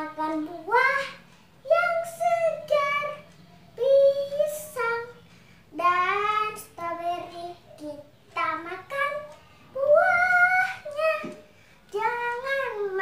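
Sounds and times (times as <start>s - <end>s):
girl singing unaccompanied: 0.0s - 13.0s.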